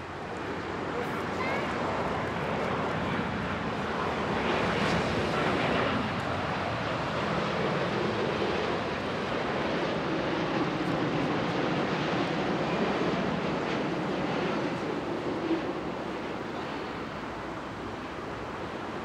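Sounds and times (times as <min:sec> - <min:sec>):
jet plane passing overhead: 0:00.0 - 0:19.0.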